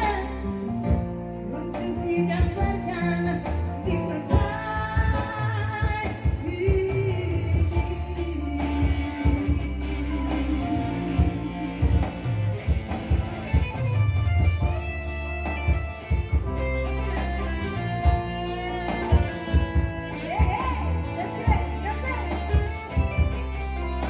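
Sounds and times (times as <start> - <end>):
band music over loudspeakers: 0.0 - 24.0.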